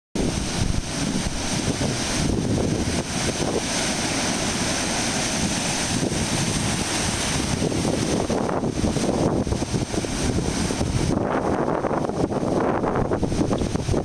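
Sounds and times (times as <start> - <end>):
surf washing over rocks: 0.2 - 14.0.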